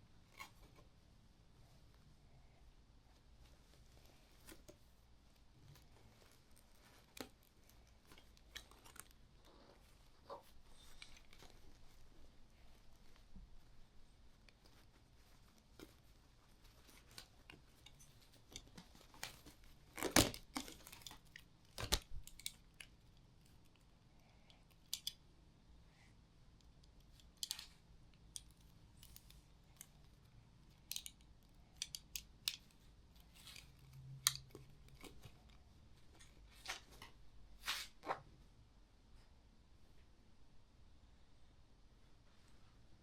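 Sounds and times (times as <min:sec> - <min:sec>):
rustles and clicks of handling: 0:00.0 - 0:25.4, 0:26.2 - 0:38.5.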